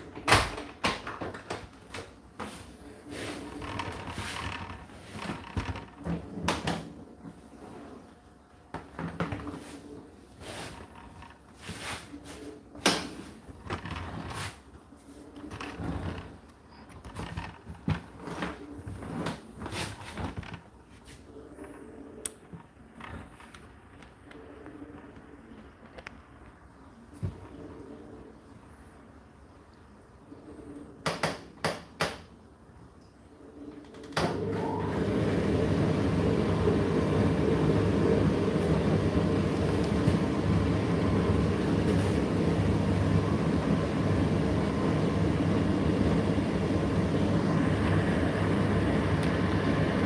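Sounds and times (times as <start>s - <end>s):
tumble dryer motor hum: 0.0s - 28.6s, 33.3s - 50.0s.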